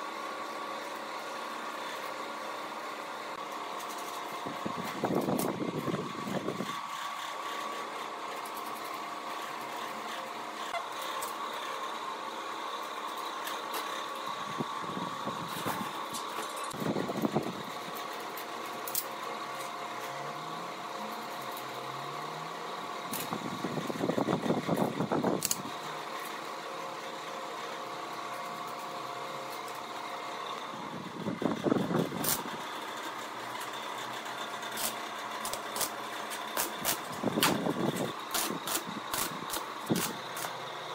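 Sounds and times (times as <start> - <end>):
workshop hum: 0.0 - 40.9
arc welding crackle: 3.1 - 11.8, 12.5 - 27.2, 28.4 - 40.9.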